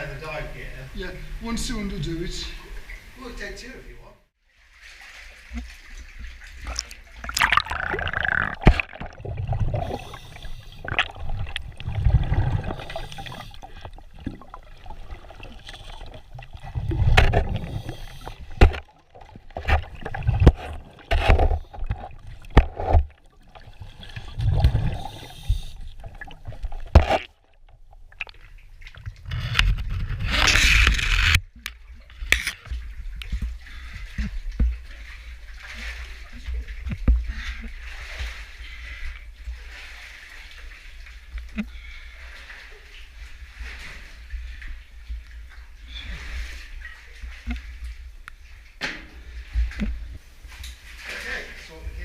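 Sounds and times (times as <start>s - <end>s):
water sloshing and gurgling: 0.2s - 52.0s.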